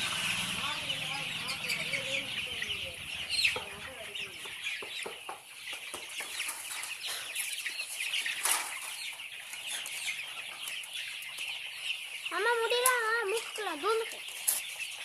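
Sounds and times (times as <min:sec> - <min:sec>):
chickens clucking and cheeping: 0:00.0 - 0:15.0.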